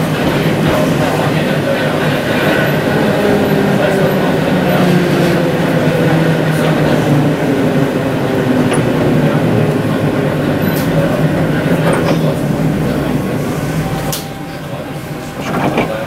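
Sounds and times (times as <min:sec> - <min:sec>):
electric traction hum: 0:00.0 - 0:16.0
wheel-on-rail rumble: 0:00.0 - 0:16.0.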